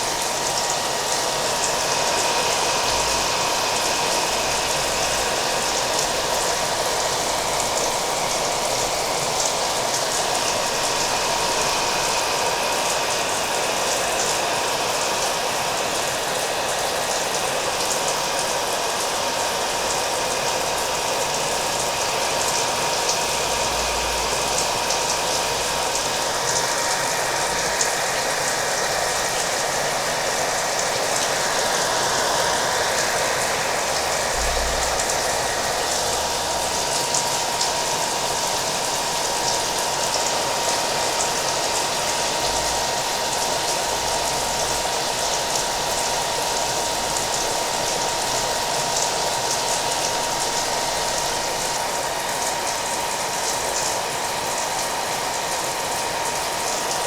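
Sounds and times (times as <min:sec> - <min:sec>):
hair dryer whining: 0:00.0 - 0:57.0
steady rain: 0:00.0 - 0:57.0.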